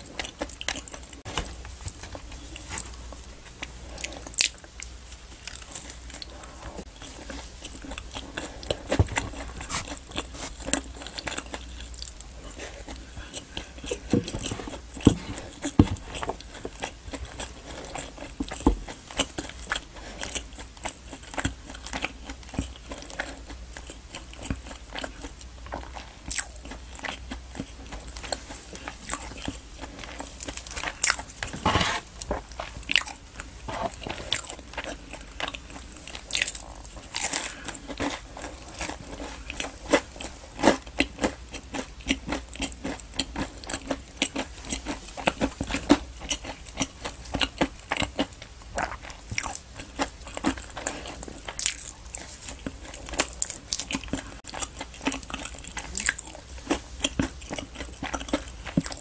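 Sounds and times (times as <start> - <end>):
biting and chewing food: 0.0 - 59.0.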